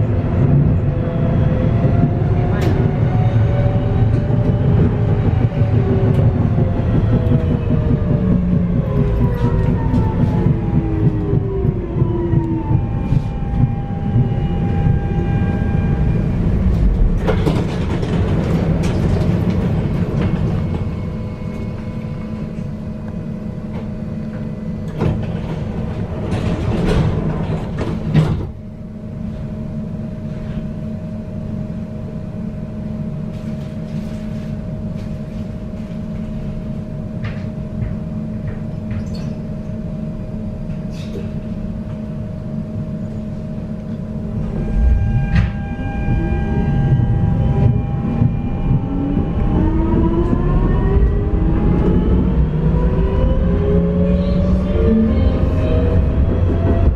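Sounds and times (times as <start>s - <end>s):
tram rumbling on rails: 0.0s - 56.9s
tram whine: 0.0s - 56.9s.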